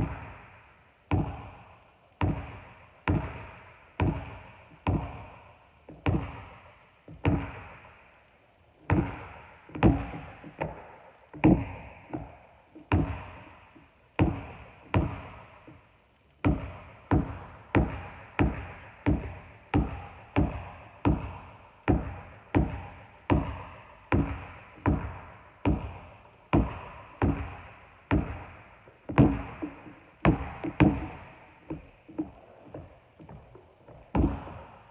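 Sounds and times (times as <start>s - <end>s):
basketball bouncing on wooden floor: 0.0s - 0.4s, 1.1s - 1.6s, 2.2s - 7.8s, 8.8s - 13.5s, 14.2s - 15.8s, 16.4s - 34.9s.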